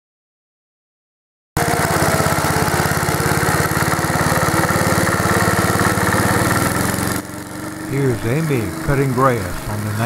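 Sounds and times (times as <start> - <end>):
lawnmower engine running: 1.6 - 10.0.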